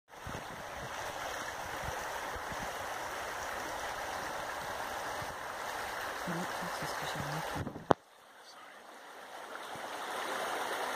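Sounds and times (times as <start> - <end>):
river rushing over stones: 0.1 - 10.9.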